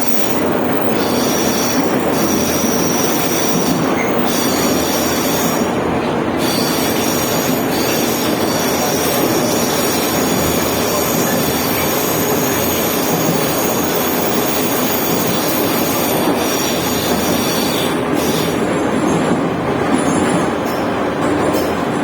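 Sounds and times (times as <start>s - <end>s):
metro train rail noise: 0.0s - 22.0s
wheels squealing on rails: 0.0s - 22.0s.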